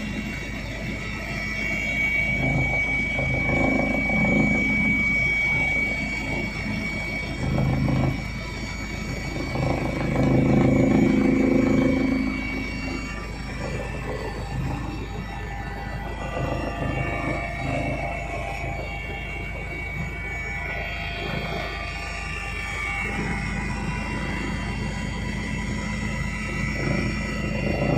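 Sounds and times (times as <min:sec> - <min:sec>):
helicopter engine and rotor drone: 0:00.0 - 0:27.9
high whine: 0:00.0 - 0:27.9.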